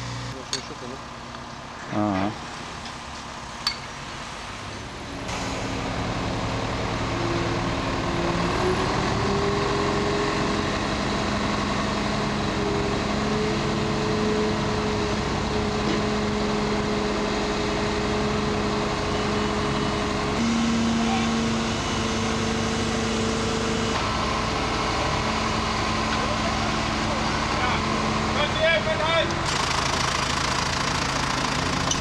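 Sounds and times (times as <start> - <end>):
crane diesel engine under load: 0.0 - 32.0.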